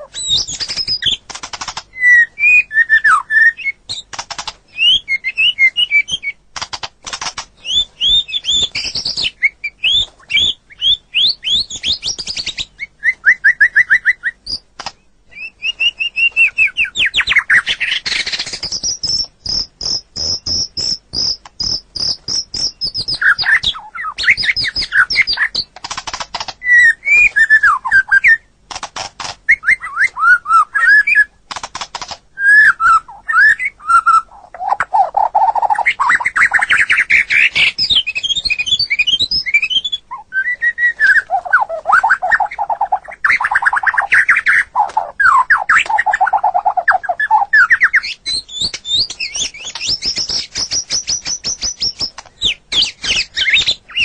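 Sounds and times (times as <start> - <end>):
bird singing whistled phrases and trills: 0.0 - 6.4, 7.6 - 25.7, 26.6 - 28.5, 29.5 - 31.4, 32.4 - 54.0
bird harsh clicking notes: 0.1 - 10.5, 13.4 - 15.1, 15.8 - 40.0, 41.1 - 54.0.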